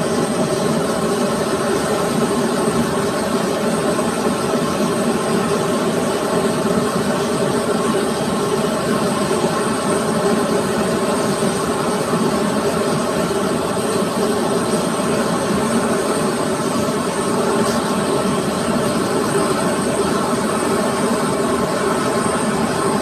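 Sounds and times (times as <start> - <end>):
turboprop aircraft engine drone: 0.0 - 23.0.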